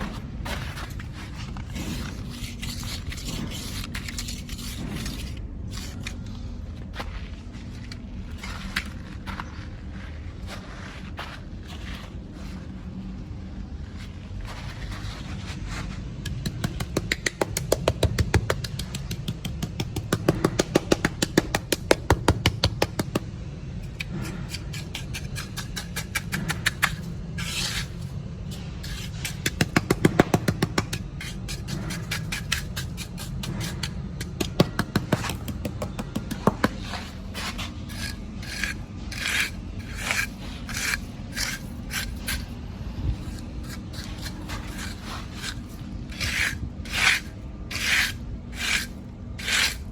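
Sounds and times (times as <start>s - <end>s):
scraping dirt: 0.0s - 12.8s, 13.6s - 49.9s.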